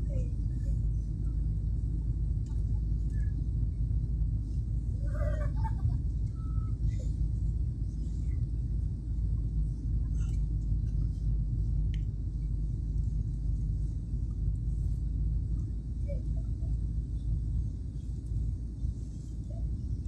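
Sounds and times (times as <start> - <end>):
jet airliner cabin rumble: 0.0 - 20.0.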